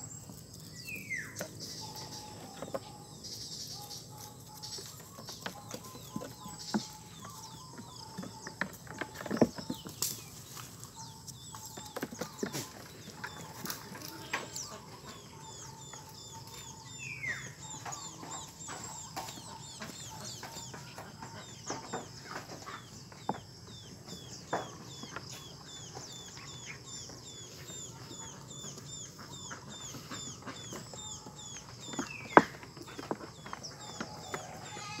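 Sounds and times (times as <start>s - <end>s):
chickens clucking: 0.0s - 35.0s
hooves knocking on wooden planks: 4.6s - 35.0s.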